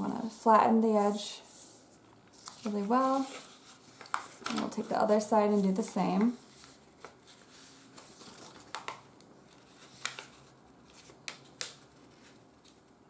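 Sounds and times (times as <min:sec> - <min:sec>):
paper rustling and crinkling: 0:01.5 - 0:13.0.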